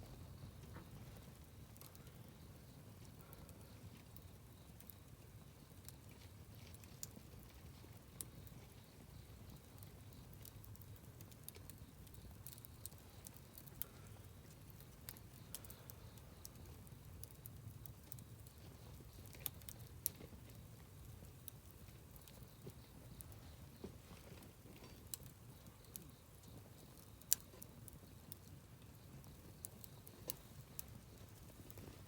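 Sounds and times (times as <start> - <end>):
low fire rumble: 0.0 - 32.0
campfire crackling and popping: 0.3 - 32.0.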